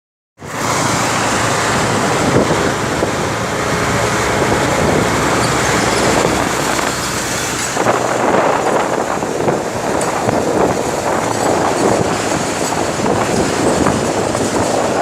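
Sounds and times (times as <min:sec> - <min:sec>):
vehicle rumbling through tunnel: 0:00.4 - 0:15.0.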